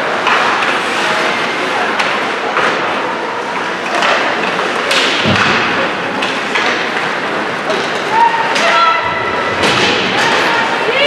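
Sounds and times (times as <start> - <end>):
hockey sticks and puck clacking: 0.0 - 11.0
rink hubbub: 0.0 - 11.0.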